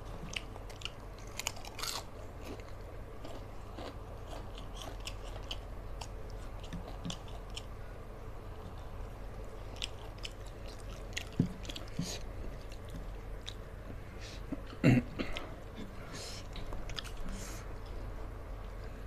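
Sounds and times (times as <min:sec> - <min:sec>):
man chewing and lip smacking: 0:00.1 - 0:07.7, 0:09.7 - 0:18.0.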